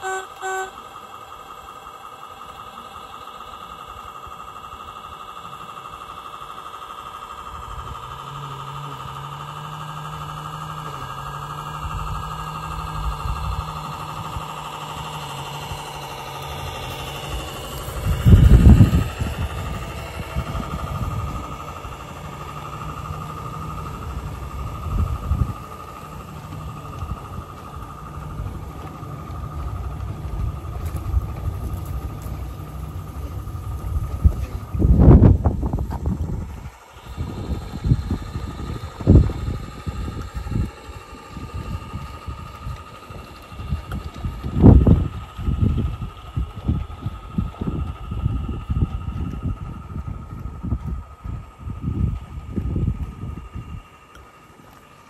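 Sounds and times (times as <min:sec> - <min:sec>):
distant small engine idling: 0:00.0 - 0:55.0
locomotive whine: 0:00.0 - 0:55.0
wind rumble on microphone: 0:07.5 - 0:54.2.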